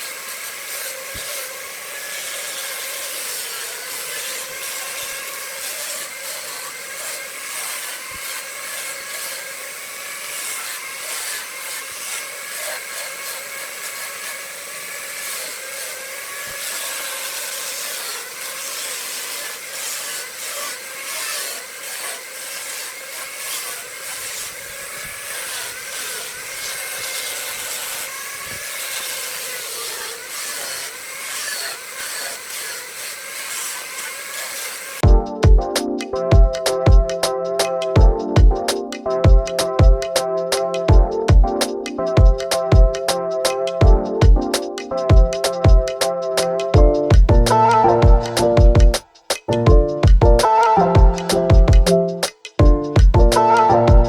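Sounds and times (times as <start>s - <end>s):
tool scraping spinning wood: 0.0s - 54.0s.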